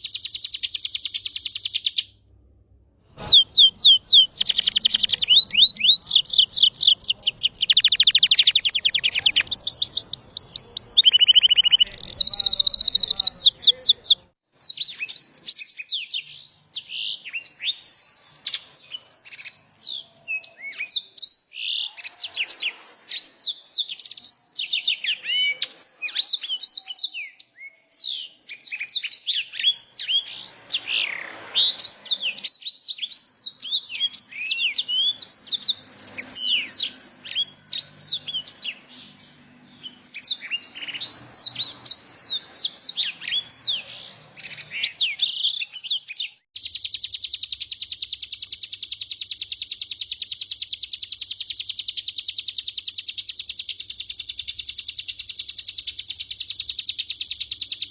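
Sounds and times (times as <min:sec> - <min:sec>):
small birds singing: 0:00.0 - 0:57.9.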